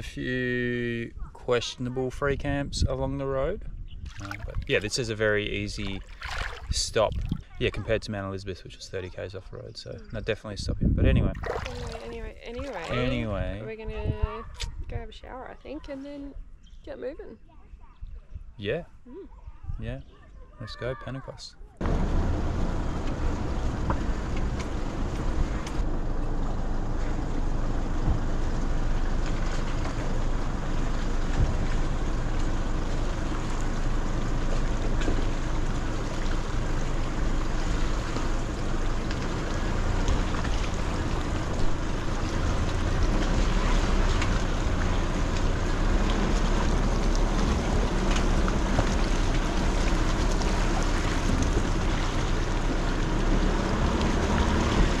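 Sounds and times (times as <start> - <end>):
road and wind noise: 0.0 - 18.7, 21.8 - 55.0.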